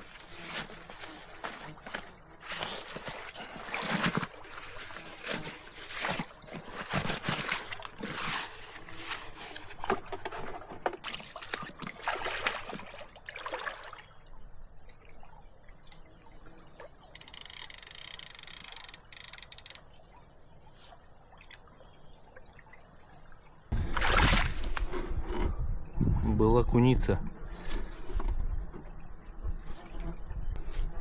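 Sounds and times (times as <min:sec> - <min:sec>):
water splashing and trickling: 0:00.0 - 0:30.7.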